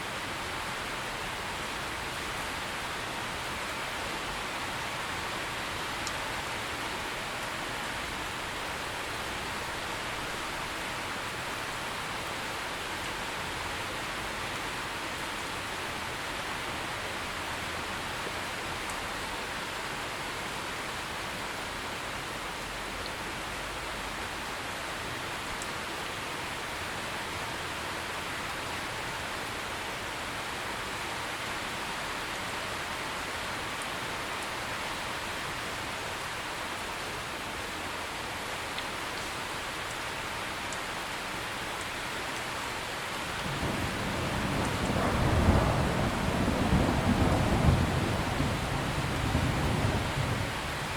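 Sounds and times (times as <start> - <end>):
heavy rain falling: 0.1 - 50.9.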